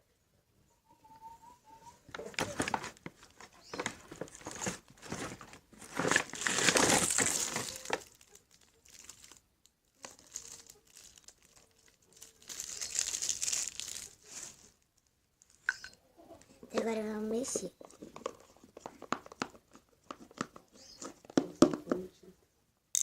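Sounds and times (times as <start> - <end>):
plastic crinkling and rustling: 2.1 - 15.8, 16.7 - 21.4.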